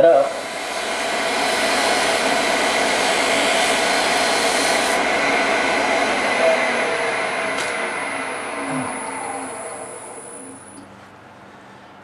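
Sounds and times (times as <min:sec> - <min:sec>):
lathe humming: 0:00.0 - 0:11.3.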